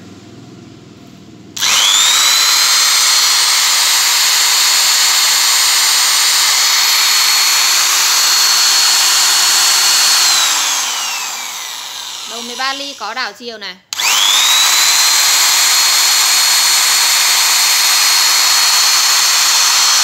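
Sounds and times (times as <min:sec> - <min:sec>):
electric drill whining: 0:01.6 - 0:13.2, 0:13.9 - 0:20.0.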